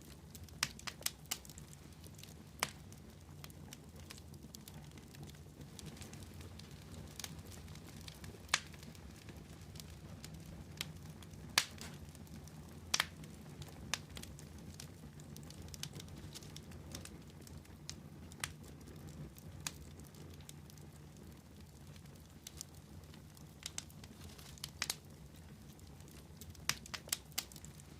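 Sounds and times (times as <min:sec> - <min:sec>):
campfire logs crackling and popping: 0:00.0 - 0:27.9.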